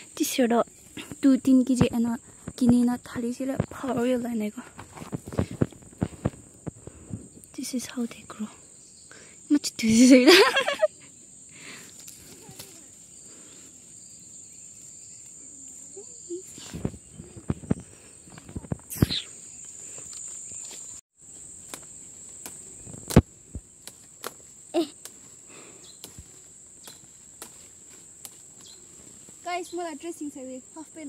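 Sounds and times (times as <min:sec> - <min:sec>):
knocks and rustles in vegetation: 0:00.0 - 0:08.5, 0:11.7 - 0:31.0
insects trilling: 0:00.0 - 0:31.0.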